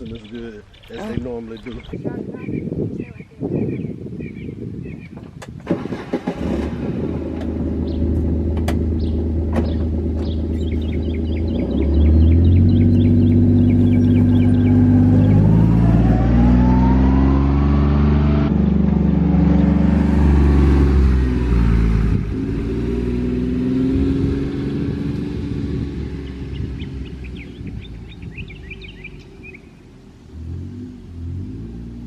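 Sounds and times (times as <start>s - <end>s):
birds chirping: 0.0s - 5.6s, 7.1s - 17.3s, 18.9s - 32.0s
vehicle engine running: 5.7s - 32.0s.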